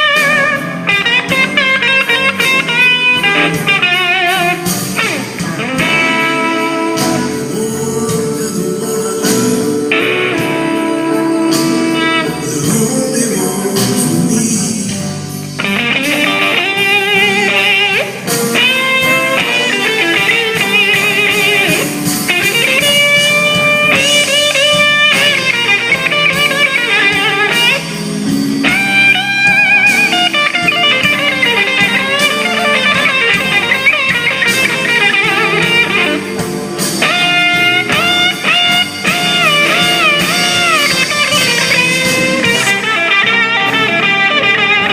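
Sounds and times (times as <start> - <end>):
backing band: 0.0 - 44.9
blues electric guitar lead: 0.0 - 44.9.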